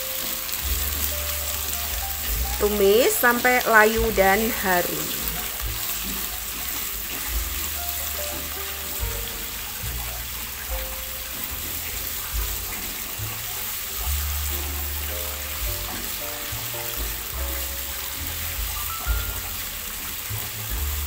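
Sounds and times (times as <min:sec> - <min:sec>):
background music with bass: 0:00.0 - 0:03.1, 0:04.0 - 0:21.0
spatula turning food in wok: 0:00.0 - 0:21.0
vegetables sizzling in hot oil: 0:00.0 - 0:21.0.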